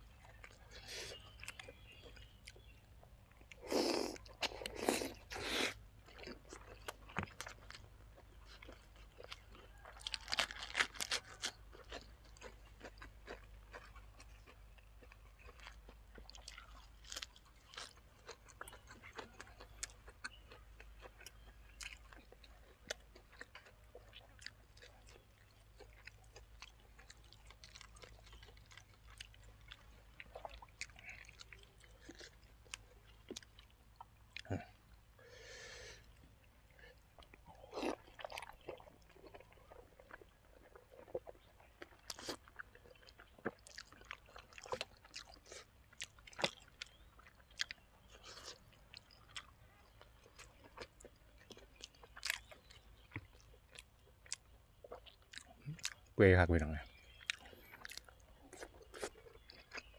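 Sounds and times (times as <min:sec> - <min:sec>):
person chewing food: 0:00.0 - 0:56.2, 0:56.9 - 0:59.9.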